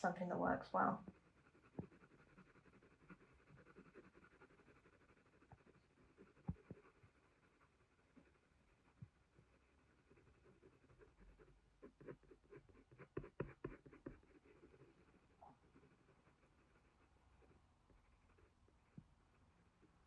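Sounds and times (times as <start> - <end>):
pencil scratching on paper: 0.0 - 19.8.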